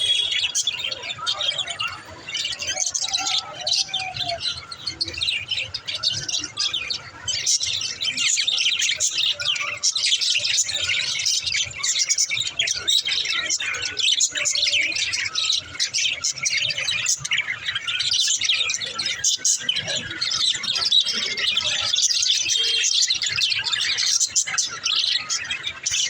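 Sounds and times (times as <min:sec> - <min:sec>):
budgerigars chirping: 0:00.0 - 0:26.0.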